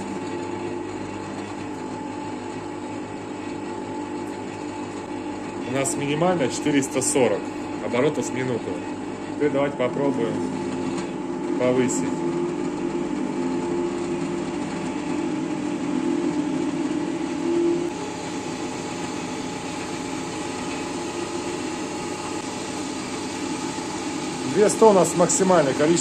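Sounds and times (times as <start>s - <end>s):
drill press motor humming: 0.0s - 26.0s.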